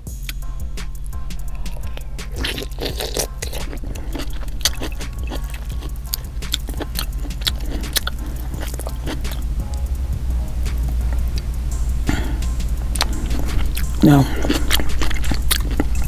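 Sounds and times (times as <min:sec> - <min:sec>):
sharp irregular clicks: 0:00.0 - 0:16.0
steady low hum: 0:00.0 - 0:16.0
close chewing and smacking: 0:01.1 - 0:10.0, 0:10.7 - 0:16.0.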